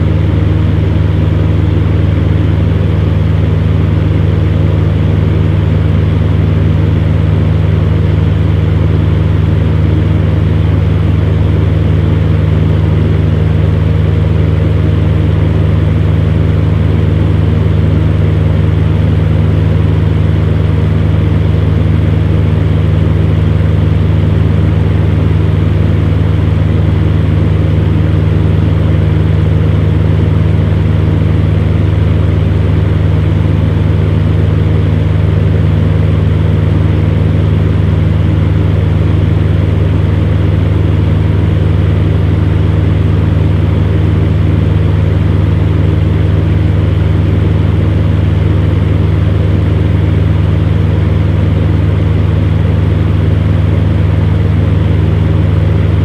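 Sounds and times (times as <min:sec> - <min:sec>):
fan humming and rushing air: 0:00.0 - 0:56.0.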